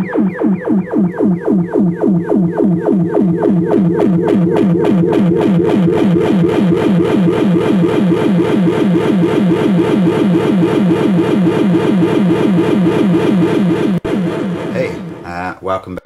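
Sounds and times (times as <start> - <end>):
synth siren swooping: 0.0 - 15.4.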